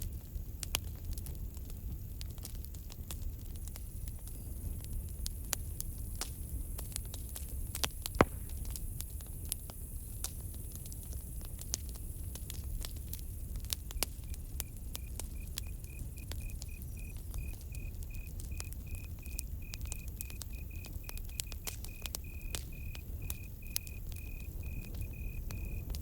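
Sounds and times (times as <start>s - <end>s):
campfire crackling: 0.0s - 26.0s
cricket chirping: 3.8s - 26.0s.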